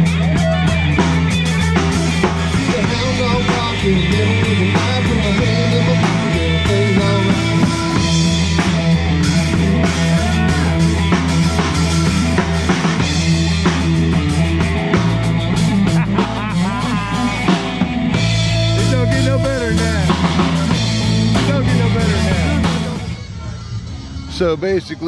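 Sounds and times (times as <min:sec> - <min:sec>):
wavering high guitar notes: 0:00.0 - 0:24.7
live rock band playing: 0:00.0 - 0:25.0.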